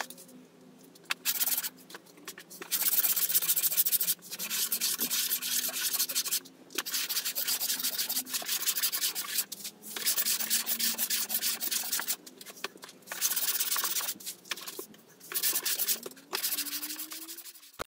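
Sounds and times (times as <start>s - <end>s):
hand sanding wood: 1.2s - 1.7s, 2.6s - 12.2s, 13.1s - 17.9s.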